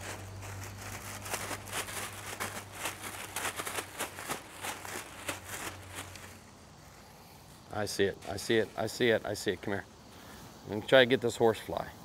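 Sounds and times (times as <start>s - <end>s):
faint crackling: 0.0s - 10.8s
steady low hum: 0.0s - 12.0s.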